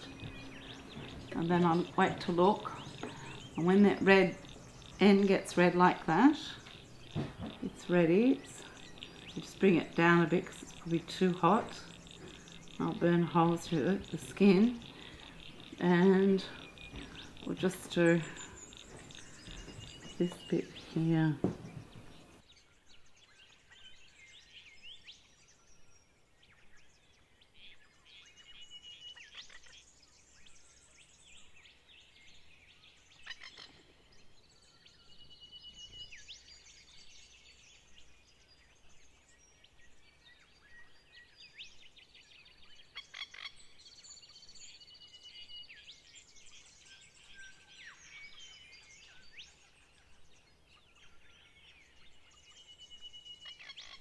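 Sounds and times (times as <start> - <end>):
animal calls trills and chirps: 0.0 - 22.4, 26.7 - 54.0.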